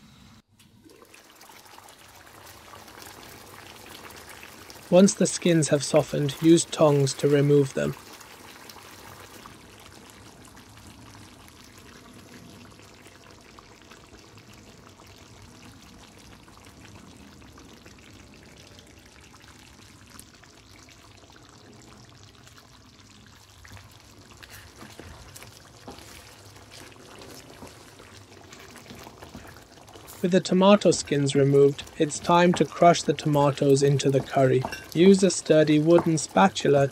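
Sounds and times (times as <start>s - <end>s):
food sizzling in hot oil: 0.9s - 36.9s.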